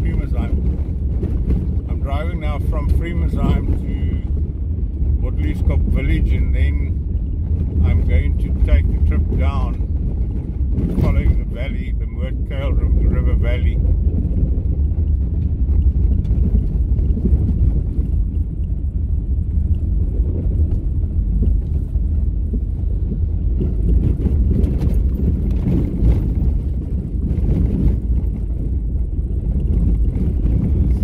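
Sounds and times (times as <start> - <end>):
car driving on gravel: 0.0 - 31.0
gravel crackling: 0.0 - 31.0.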